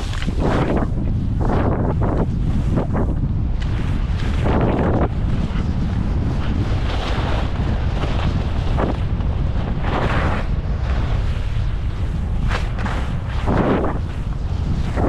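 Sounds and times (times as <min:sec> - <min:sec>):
skis swishing on snow: 0:00.0 - 0:15.0
wind rushing over microphone: 0:00.0 - 0:15.0.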